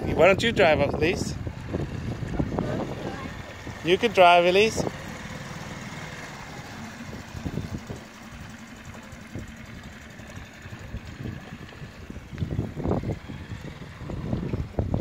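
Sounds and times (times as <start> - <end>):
small outboard motor running: 0.0 - 15.0.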